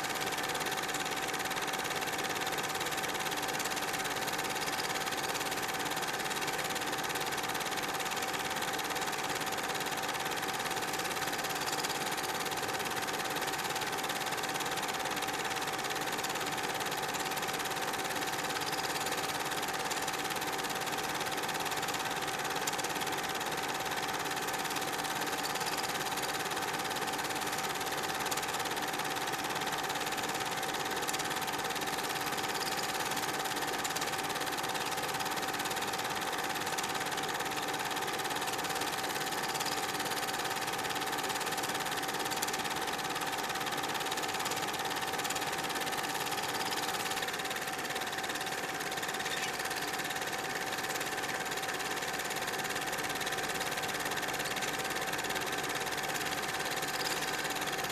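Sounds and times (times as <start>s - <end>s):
film projector whirring and clattering: 0.0s - 57.9s.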